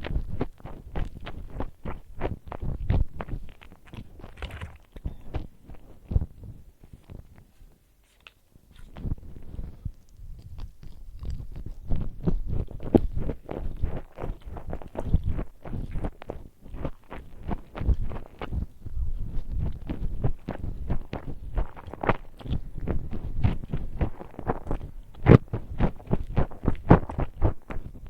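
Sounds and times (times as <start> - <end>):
chewing crunchy food: 0.0 - 28.0.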